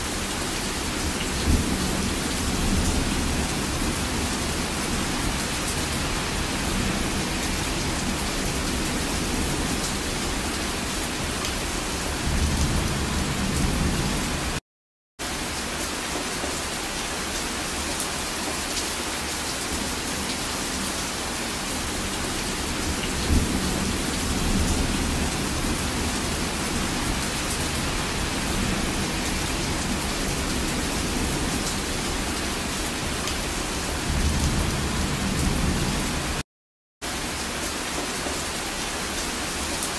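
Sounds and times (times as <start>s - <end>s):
rain pouring: 0.0s - 14.6s, 15.2s - 36.4s, 37.0s - 39.9s.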